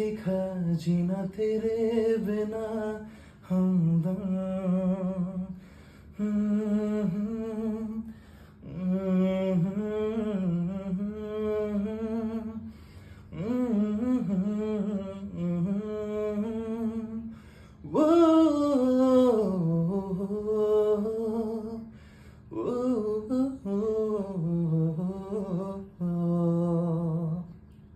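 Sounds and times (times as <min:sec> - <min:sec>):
man singing unaccompanied: 0:00.0 - 0:27.7.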